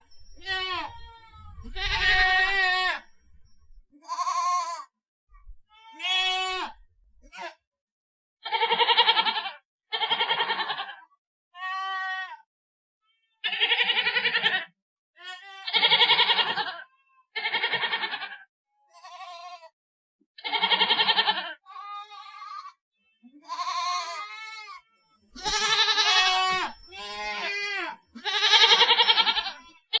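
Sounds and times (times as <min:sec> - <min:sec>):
goat bleating: 0:00.4 - 0:03.1, 0:04.0 - 0:04.9, 0:05.7 - 0:07.6, 0:08.4 - 0:11.0, 0:11.6 - 0:12.4, 0:13.4 - 0:19.7, 0:20.4 - 0:22.8, 0:23.4 - 0:30.0.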